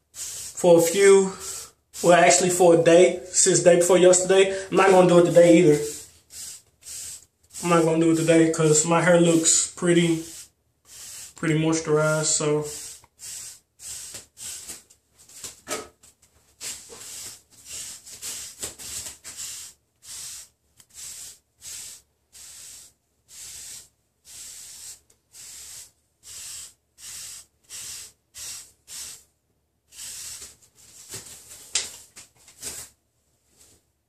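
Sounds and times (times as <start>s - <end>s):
brush swishing over hair: 0.0s - 15.6s, 16.5s - 29.3s.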